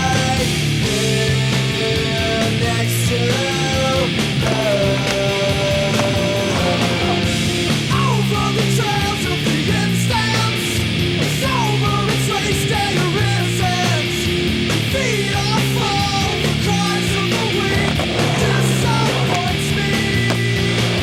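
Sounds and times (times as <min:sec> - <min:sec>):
distorted rock guitars: 0:00.0 - 0:21.0
steady drums: 0:00.0 - 0:21.0.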